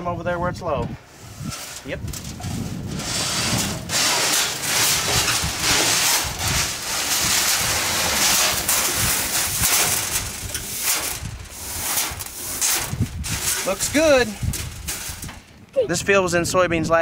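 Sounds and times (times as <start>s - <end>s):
seeds rustling and rattling: 1.5s - 15.6s.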